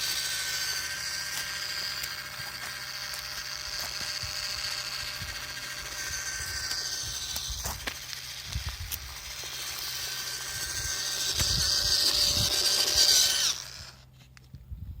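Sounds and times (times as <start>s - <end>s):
toy truck electric motor whining: 0.0s - 14.4s.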